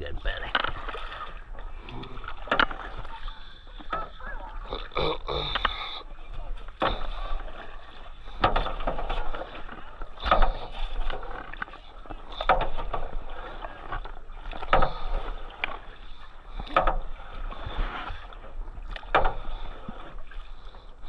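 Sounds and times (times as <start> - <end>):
paddle splashing through water: 0.0 - 21.0.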